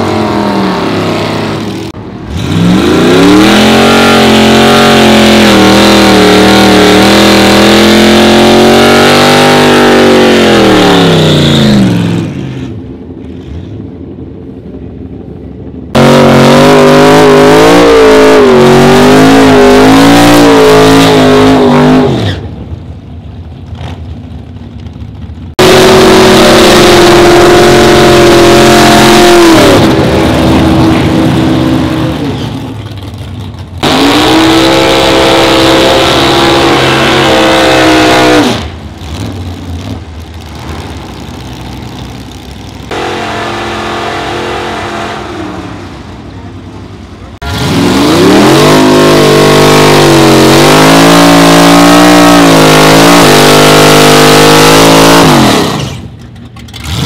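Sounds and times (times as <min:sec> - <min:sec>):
race car engine revving: 0:00.0 - 0:12.6, 0:15.9 - 0:22.4, 0:25.5 - 0:33.2, 0:33.8 - 0:46.8, 0:47.4 - 0:57.0
quieter engine: 0:00.0 - 0:57.0.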